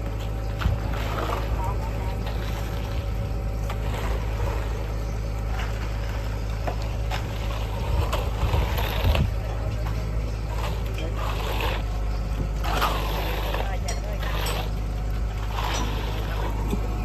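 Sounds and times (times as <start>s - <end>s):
knocks and scrapes of work: 0.0s - 17.0s
machinery engine droning: 0.0s - 17.0s.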